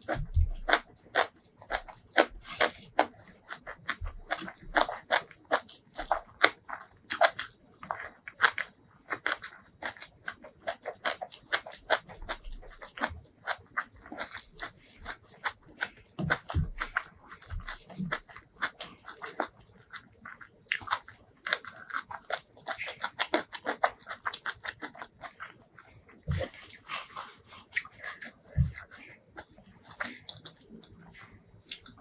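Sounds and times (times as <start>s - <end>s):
chewing food: 0.0s - 32.0s.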